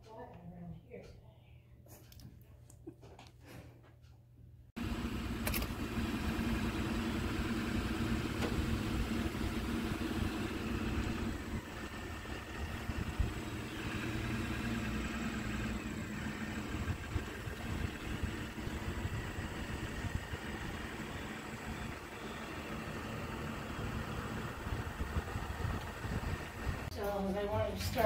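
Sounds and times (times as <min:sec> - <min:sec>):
truck engines idling: 0:04.8 - 0:28.0.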